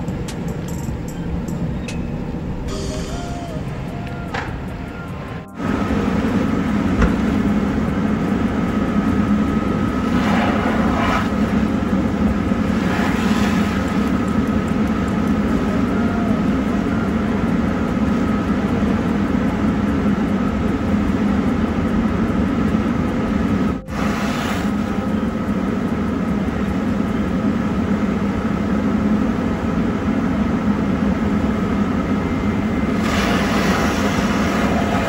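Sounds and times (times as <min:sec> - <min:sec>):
faint steady whine: 0:00.0 - 0:35.0
low mechanical rumble: 0:00.0 - 0:35.0.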